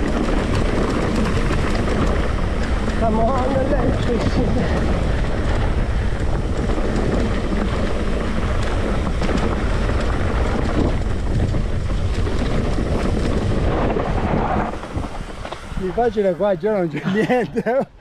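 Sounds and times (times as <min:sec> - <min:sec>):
bike rattles and knocks: 0:00.0 - 0:16.1
tyres rolling on dirt: 0:00.0 - 0:18.0
wind on microphone: 0:00.0 - 0:18.0.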